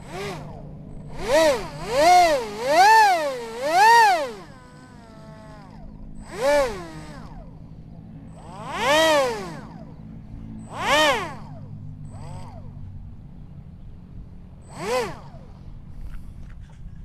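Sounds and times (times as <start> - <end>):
electric motor whining: 0.0 - 13.0, 14.6 - 16.6.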